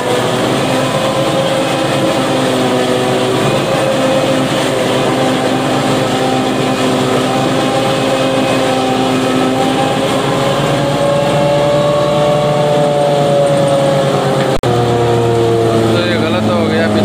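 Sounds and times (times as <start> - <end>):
forage harvester chopping stalks: 0.0 - 17.0
tractor engine under load: 0.0 - 17.0.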